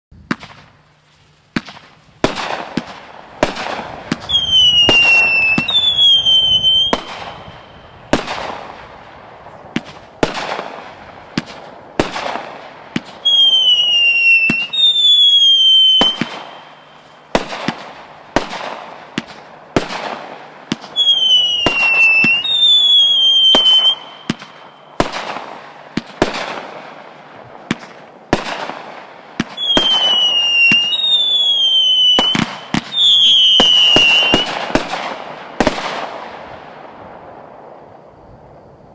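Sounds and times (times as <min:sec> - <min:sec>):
firework bangs: 0:00.2 - 0:00.8, 0:01.5 - 0:38.0
firework whistles: 0:00.3 - 0:38.9.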